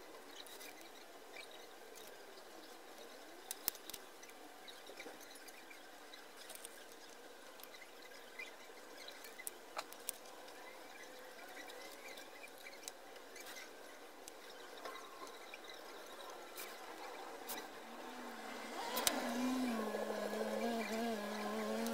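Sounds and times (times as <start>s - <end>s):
low steady hiss: 0.0s - 21.9s.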